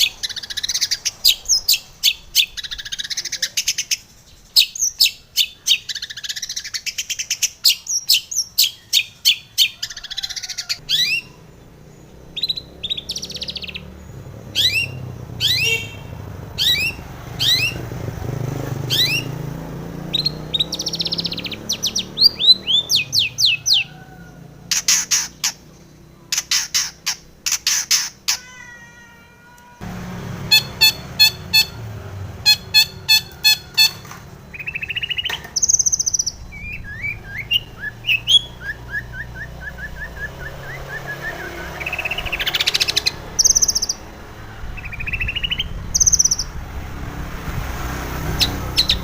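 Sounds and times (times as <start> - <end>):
shrike singing: 0.0 - 18.2, 18.8 - 28.7, 30.3 - 46.6.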